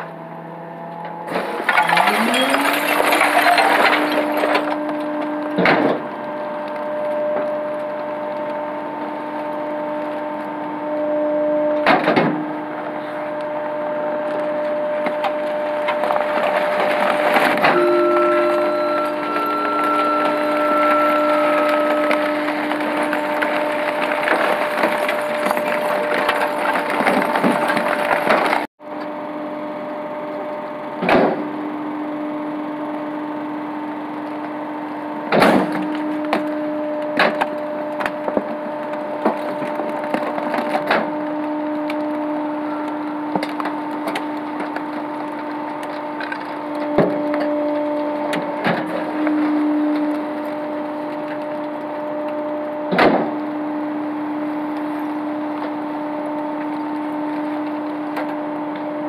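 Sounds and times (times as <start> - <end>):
garbage truck packer hum: 0.0 - 59.0.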